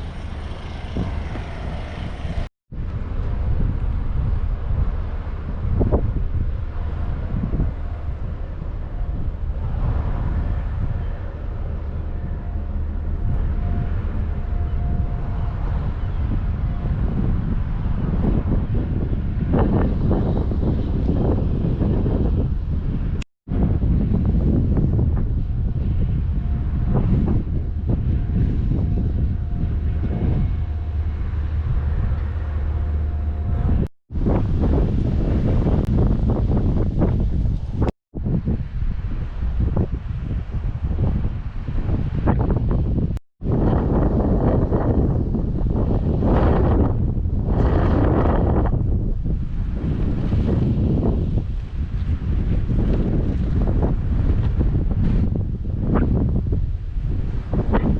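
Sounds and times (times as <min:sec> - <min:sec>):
low mechanical rumble: 0:00.0 - 0:57.9
wind buffeting microphone: 0:00.0 - 0:57.9.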